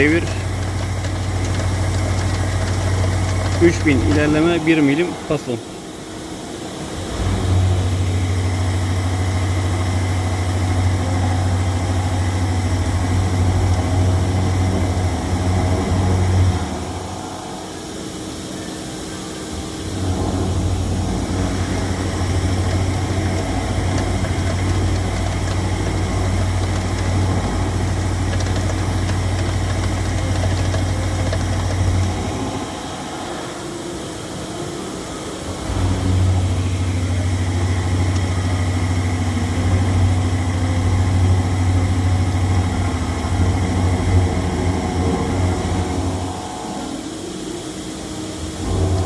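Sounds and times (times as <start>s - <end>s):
milling machine cutting hum: 0.0s - 49.0s.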